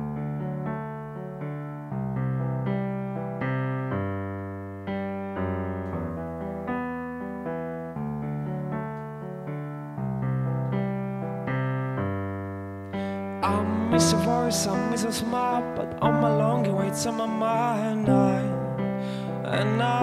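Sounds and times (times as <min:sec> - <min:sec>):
digital piano chords: 0:00.0 - 0:20.0.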